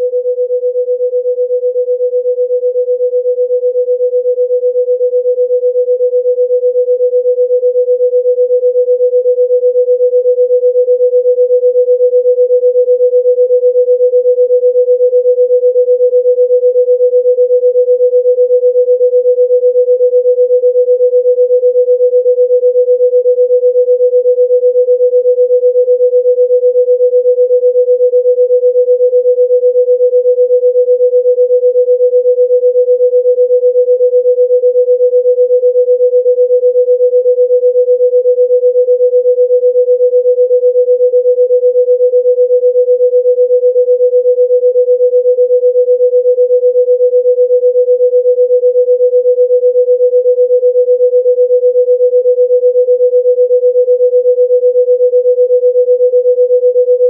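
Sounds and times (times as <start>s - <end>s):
steady electronic sine tone: 0.0s - 57.0s.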